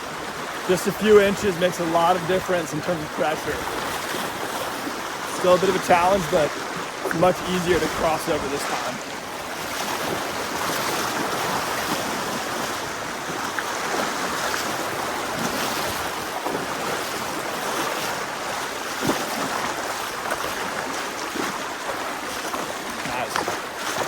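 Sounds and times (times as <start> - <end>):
river current rushing: 0.0 - 24.0.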